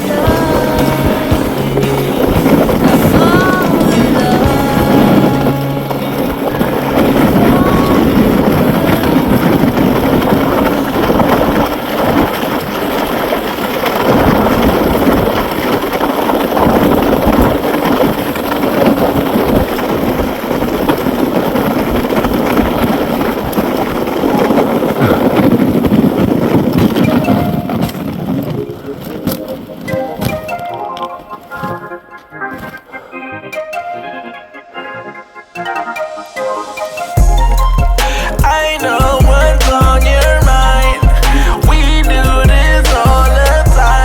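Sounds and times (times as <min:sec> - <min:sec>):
wind buffeting microphone: 0:00.0 - 0:32.9, 0:36.8 - 0:44.0
electric bike rolling and rattling: 0:00.0 - 0:33.0, 0:33.6 - 0:44.0.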